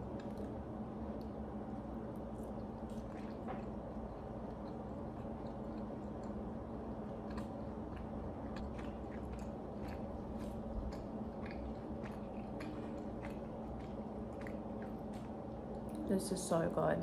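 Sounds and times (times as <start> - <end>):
person chewing food: 0.0 - 16.0
low hum: 0.0 - 17.0.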